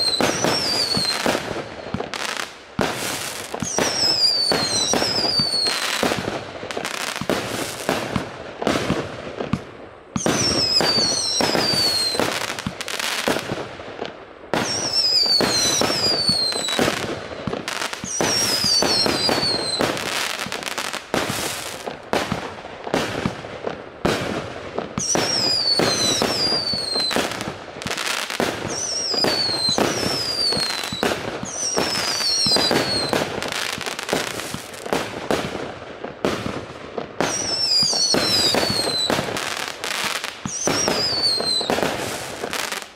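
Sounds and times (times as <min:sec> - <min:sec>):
falling firework whistles: 0:00.0 - 0:08.2, 0:10.2 - 0:13.5, 0:14.5 - 0:22.4, 0:25.0 - 0:35.5, 0:37.2 - 0:42.9.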